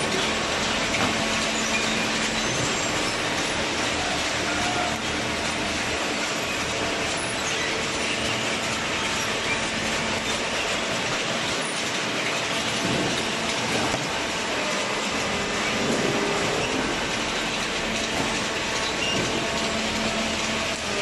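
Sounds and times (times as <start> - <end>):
machinery running: 0.0 - 21.0.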